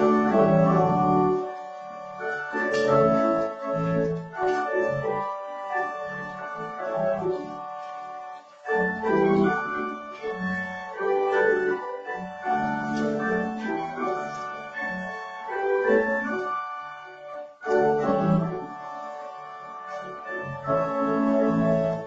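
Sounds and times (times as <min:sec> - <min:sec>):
church organ playing a hymn: 0:00.0 - 0:22.0.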